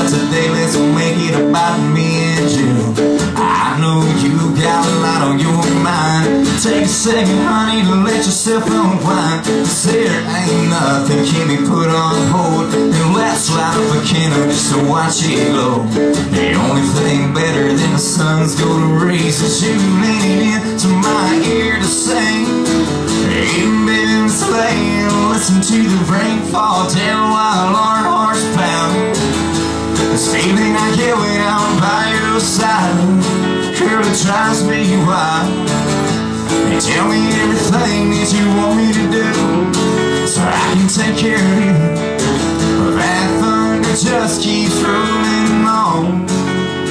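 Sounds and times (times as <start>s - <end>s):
man singing country song: 0.0s - 46.9s
strummed acoustic guitar: 0.0s - 46.9s.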